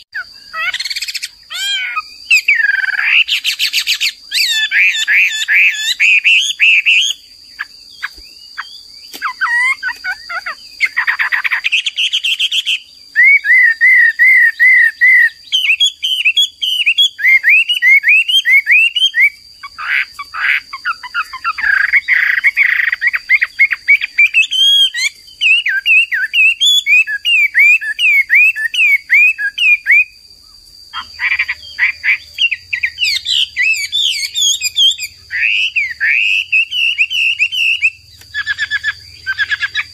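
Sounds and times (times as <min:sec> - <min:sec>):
bird singing whistled phrases: 0:00.0 - 0:07.2, 0:07.9 - 0:19.4, 0:20.8 - 0:30.2, 0:31.0 - 0:39.9.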